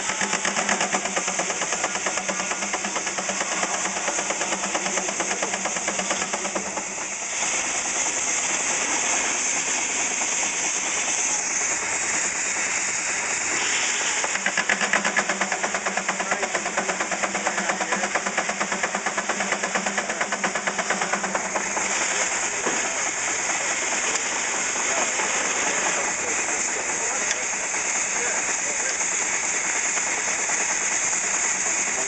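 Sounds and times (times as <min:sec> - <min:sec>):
steam engine chuffing: 0:00.0 - 0:32.0
steam hiss: 0:00.0 - 0:32.0.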